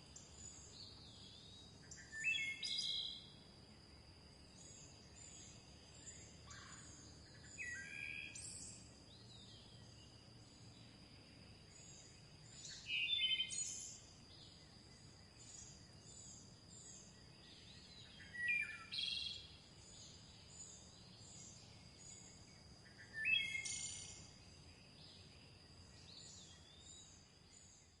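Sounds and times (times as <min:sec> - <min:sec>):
songbirds chirping: 0:00.0 - 0:28.0
loud bird song phrase: 0:00.1 - 0:28.0.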